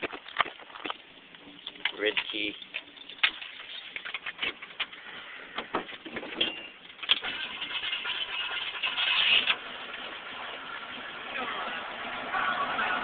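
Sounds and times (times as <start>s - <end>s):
truck engine starting and running: 0.0s - 13.0s.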